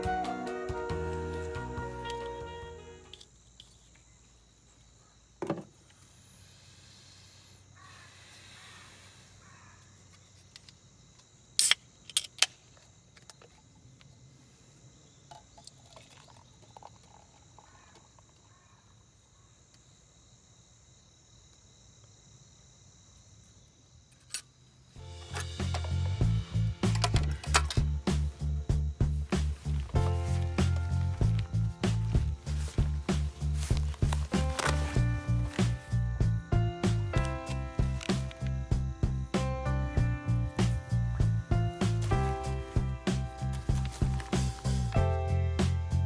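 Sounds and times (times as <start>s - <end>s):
high drone of insects: 2.0s - 46.0s.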